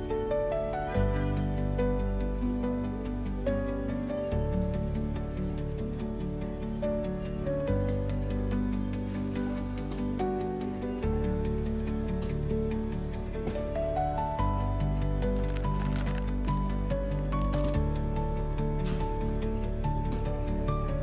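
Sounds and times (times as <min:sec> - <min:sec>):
calm instrumental music: 0:00.0 - 0:21.0.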